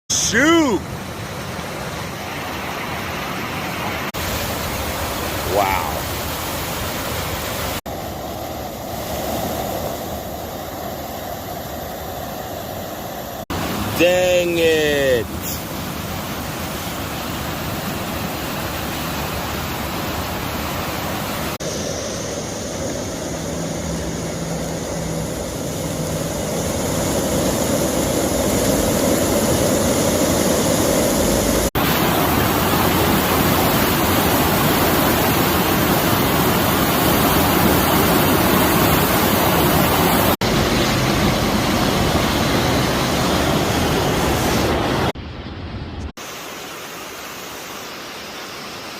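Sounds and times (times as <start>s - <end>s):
floodwater rushing down creek: 0.1s - 45.1s.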